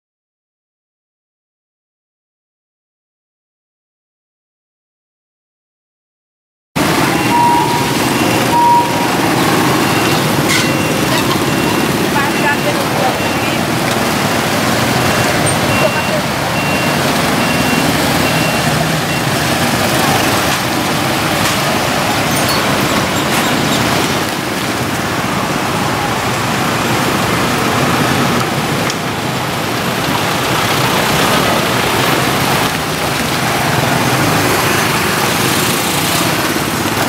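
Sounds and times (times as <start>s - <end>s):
car traffic noise: 6.8s - 37.0s
motorcycle and scooter engines: 6.8s - 37.0s.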